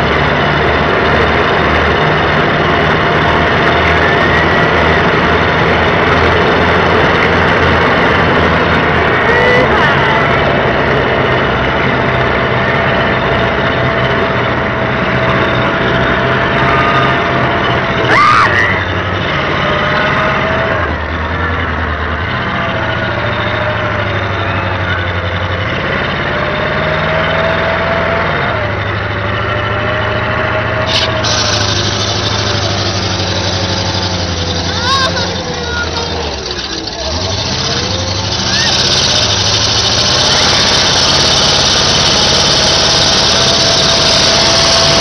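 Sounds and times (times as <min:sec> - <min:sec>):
tracked vehicle engine droning: 0:00.0 - 0:45.0.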